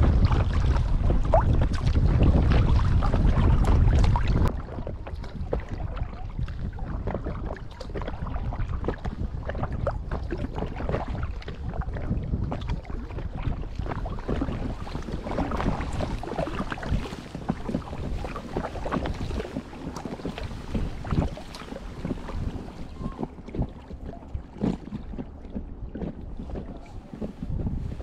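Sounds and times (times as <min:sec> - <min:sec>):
paddle water splashing: 0:00.0 - 0:28.0
wind on microphone: 0:00.0 - 0:28.0.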